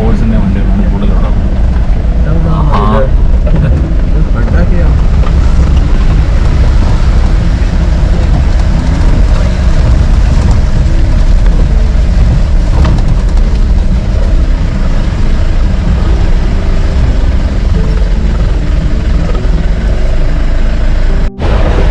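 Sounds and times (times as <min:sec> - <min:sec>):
jeep rumbling over rough track: 0:00.0 - 0:21.9.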